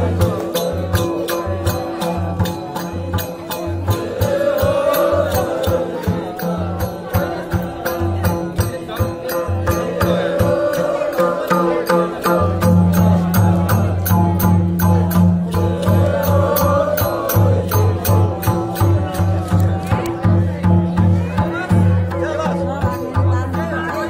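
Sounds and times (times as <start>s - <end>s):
group singing folk song: 0.0s - 24.0s
hand drums beating: 0.0s - 24.0s.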